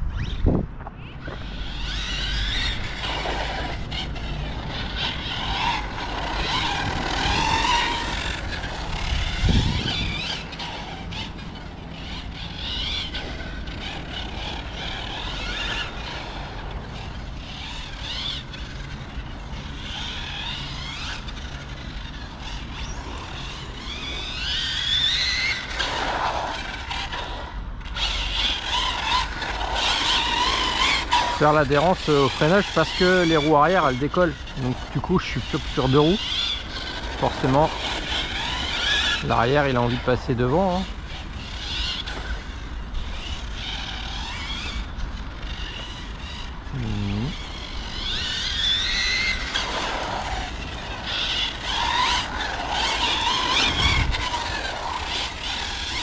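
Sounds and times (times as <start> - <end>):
electric motor whining: 0.0 - 56.0
tyres scrubbing on asphalt: 1.2 - 56.0.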